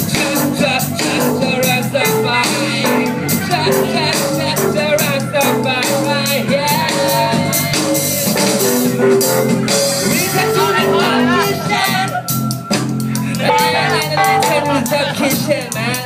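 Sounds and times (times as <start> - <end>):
man singing: 0.0 - 8.7, 10.0 - 12.2, 13.2 - 16.0
guitar: 0.0 - 16.0.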